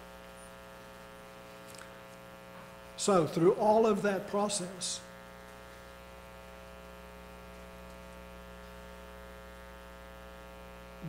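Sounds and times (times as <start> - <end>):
buzzy mains hum: 0.0 - 11.0.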